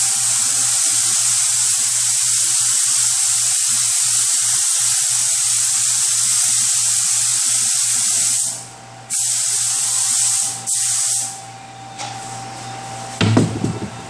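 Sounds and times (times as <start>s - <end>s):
paint spray gun hissing: 0.0s - 11.3s.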